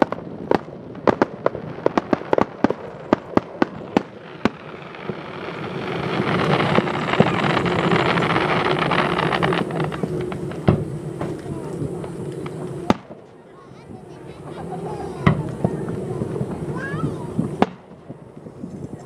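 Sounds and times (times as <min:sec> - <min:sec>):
fireworks bangs and crackles: 0:00.0 - 0:19.0
steady rush of noise: 0:00.0 - 0:19.0.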